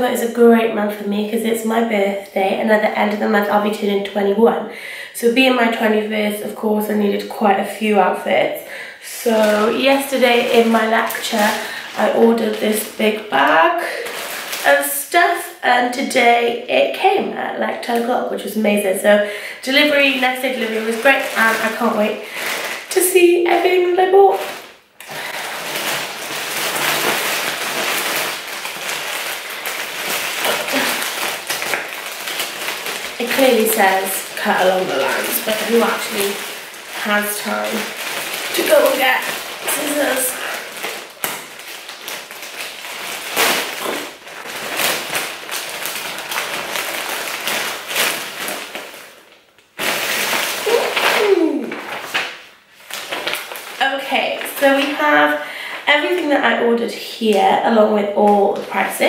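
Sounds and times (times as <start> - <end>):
plastic mailing bag crinkling: 6.8 - 17.1, 17.8 - 59.0.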